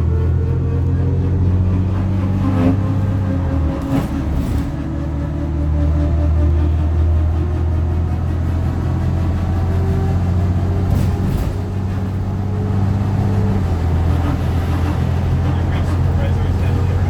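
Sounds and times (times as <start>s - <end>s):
diesel bus engine drone: 0.0s - 17.0s.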